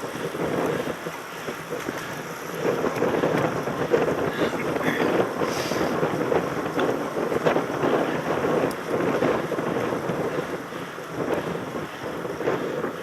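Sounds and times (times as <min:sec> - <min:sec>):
bike rattling over rough ground: 0:00.0 - 0:13.0
wind buffeting microphone: 0:00.0 - 0:13.0.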